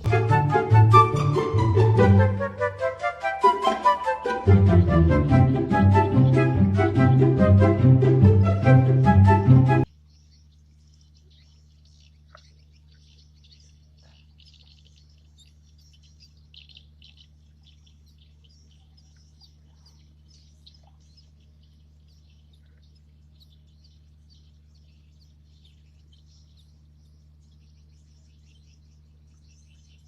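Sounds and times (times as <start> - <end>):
steady low hum: 0.0 - 3.2, 4.4 - 30.0
small birds chirping: 0.0 - 30.0.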